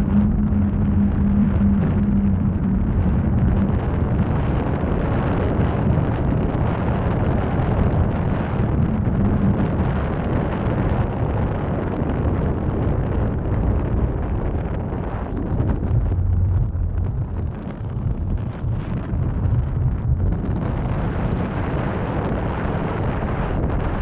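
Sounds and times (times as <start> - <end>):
car road and engine noise: 0.0 - 24.0
wind buffeting microphone: 0.0 - 24.0.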